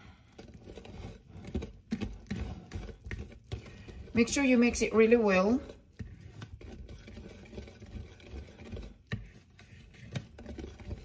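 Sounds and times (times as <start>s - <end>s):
whisk stirring batter: 0.0s - 11.0s
whisk clicking against bowl: 0.4s - 11.0s.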